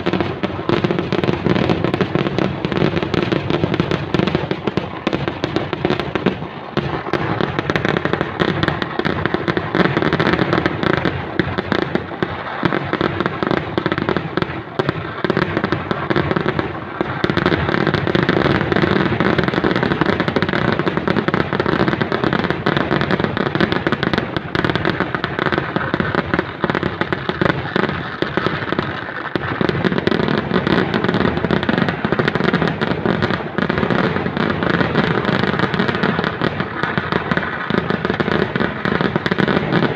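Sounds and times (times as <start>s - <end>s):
fireworks barrage crackling and booming: 0.0s - 39.9s.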